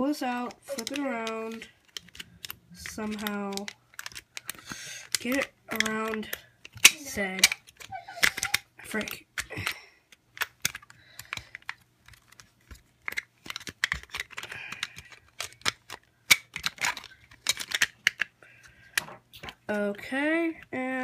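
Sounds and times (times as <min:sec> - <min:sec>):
plastic toy parts clicking: 0:00.3 - 0:18.3.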